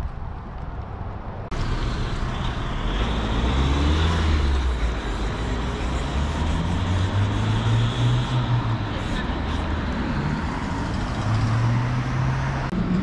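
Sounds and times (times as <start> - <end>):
road traffic noise: 0.0 - 13.0
vehicle passing close by: 1.5 - 13.0.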